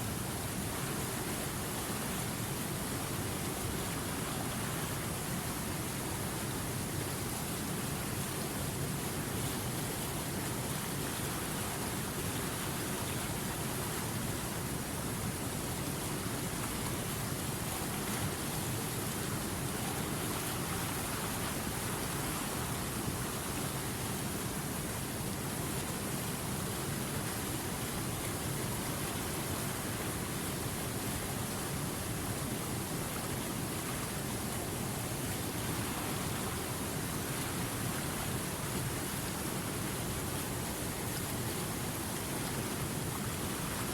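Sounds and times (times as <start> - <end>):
river water rushing over rocks: 0.0 - 43.9.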